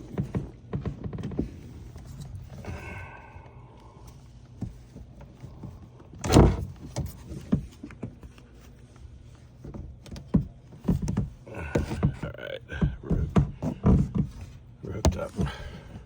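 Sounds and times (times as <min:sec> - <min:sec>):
handling knocks and clicks: 0:00.0 - 0:03.1, 0:04.0 - 0:16.0.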